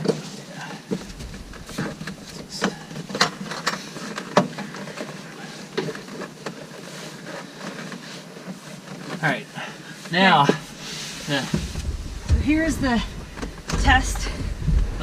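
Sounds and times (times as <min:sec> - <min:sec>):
foam pad rustling: 0:00.9 - 0:15.0.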